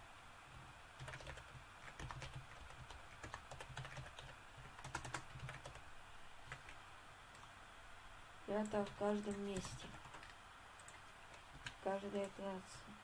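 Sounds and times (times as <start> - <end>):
keyboard typing: 1.0 - 7.5, 8.5 - 12.5.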